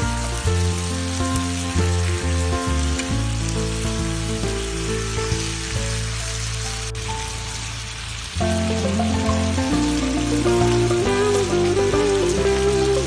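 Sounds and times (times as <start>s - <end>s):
background music: 0.0s - 13.0s
meat and vegetables frying: 0.0s - 13.0s.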